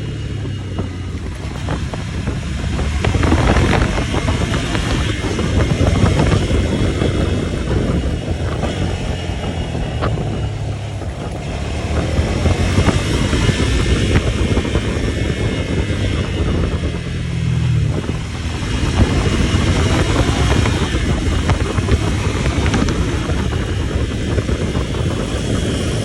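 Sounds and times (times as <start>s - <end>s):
vehicle engine drone: 0.0s - 26.0s
wind and road noise: 0.0s - 26.0s.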